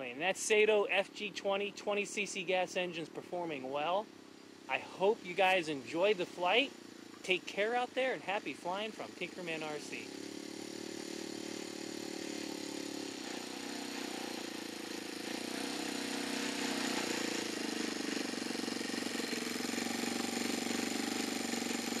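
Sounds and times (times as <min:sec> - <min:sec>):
model airplane engine idling: 0:00.0 - 0:22.0.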